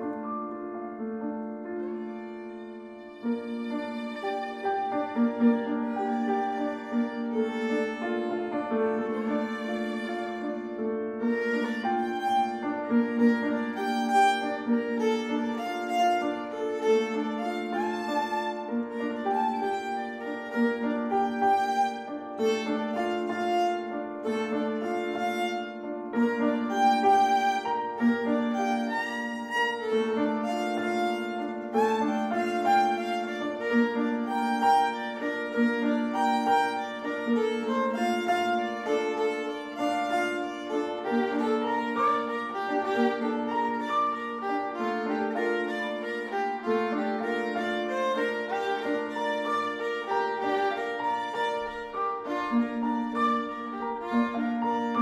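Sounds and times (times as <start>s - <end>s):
solo fiddle melody: 0.0s - 55.0s.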